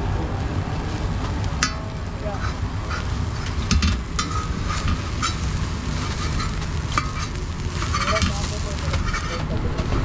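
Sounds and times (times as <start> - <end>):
egg sizzling: 0.0 - 10.0
metal spatula scraping griddle: 1.6 - 10.0.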